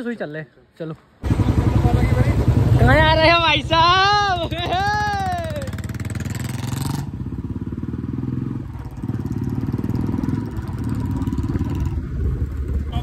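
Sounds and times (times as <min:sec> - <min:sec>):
motorcycle engine running: 0:01.2 - 0:13.0.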